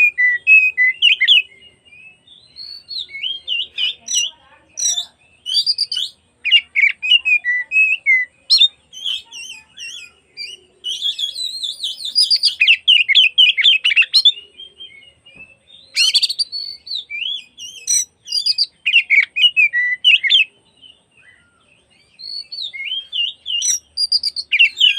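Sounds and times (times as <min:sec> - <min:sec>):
songbird whistles and trills: 0:00.0 - 0:24.9.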